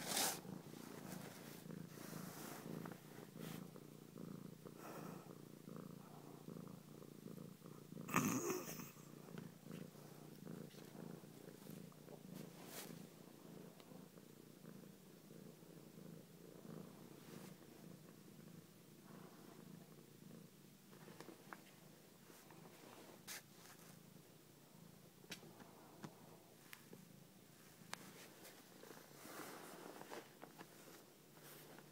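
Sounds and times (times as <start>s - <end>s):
cat purring: 0.0s - 31.9s.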